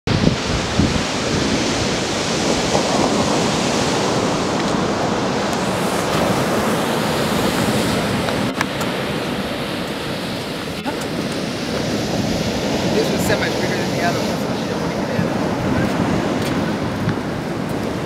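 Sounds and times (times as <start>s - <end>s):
ocean surf breaking: 0.1s - 18.0s
wind on microphone: 0.1s - 18.0s.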